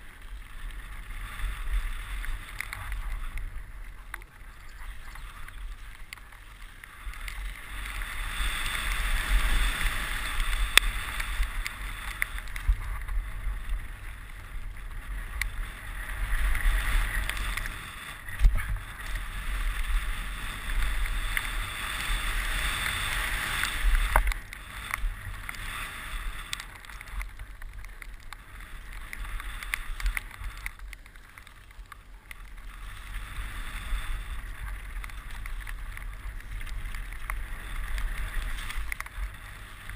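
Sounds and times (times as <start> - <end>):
bike knocking on bumps: 0.0 - 39.9
bike tyres rushing over dirt: 0.0 - 39.9.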